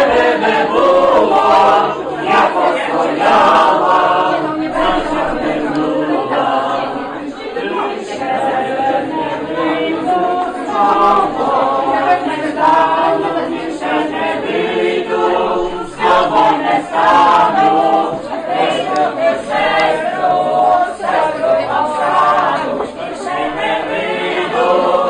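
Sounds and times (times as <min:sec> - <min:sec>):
mixed chorus singing unaccompanied: 0:00.0 - 0:25.0.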